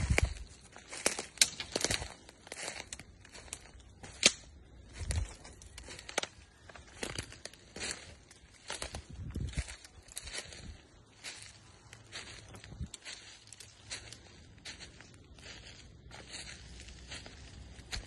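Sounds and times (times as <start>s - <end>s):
footsteps crunching dry leaves: 0.0s - 18.0s
twigs snapping underfoot: 0.0s - 18.0s.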